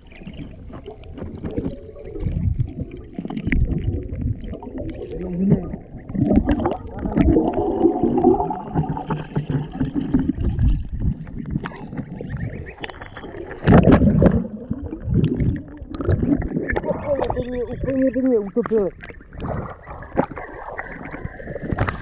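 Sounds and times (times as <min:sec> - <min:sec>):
water gurgling and sloshing: 0:00.0 - 0:22.0.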